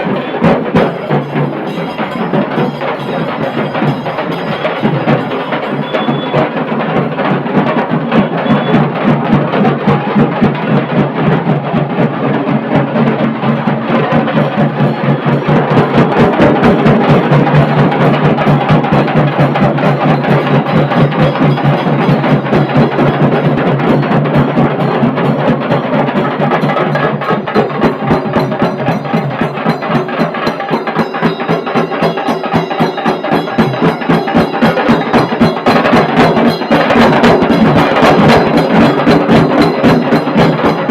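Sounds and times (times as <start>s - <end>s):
dhol and tasha drum ensemble: 0.0s - 40.9s.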